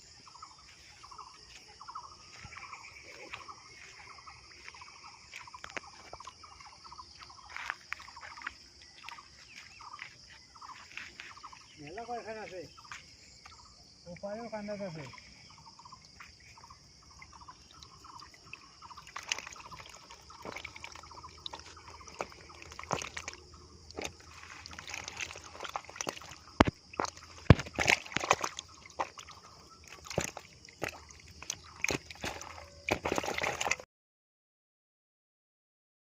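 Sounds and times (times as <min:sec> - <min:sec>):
water sloshing and splashing: 0:00.1 - 0:33.8.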